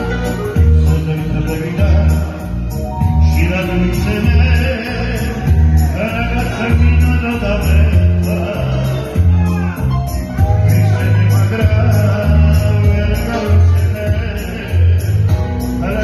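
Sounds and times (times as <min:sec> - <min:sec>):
man singing into microphone: 0:00.0 - 0:16.0.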